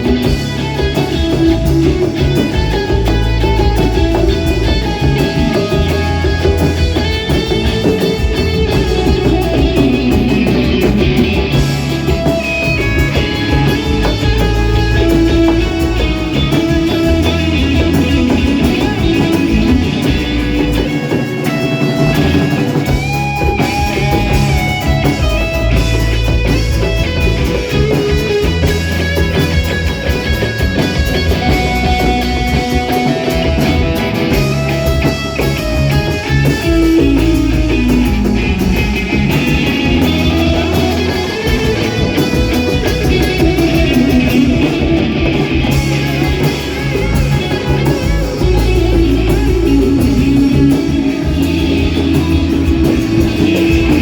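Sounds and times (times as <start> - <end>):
electric guitar bending notes: 0.0 - 54.0
rock band instrumental: 0.0 - 54.0.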